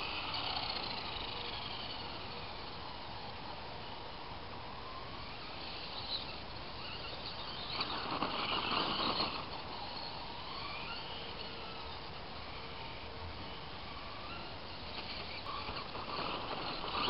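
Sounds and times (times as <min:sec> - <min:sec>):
electric motor whining: 0:00.0 - 0:04.0, 0:04.7 - 0:17.0
steady hiss: 0:00.0 - 0:17.0.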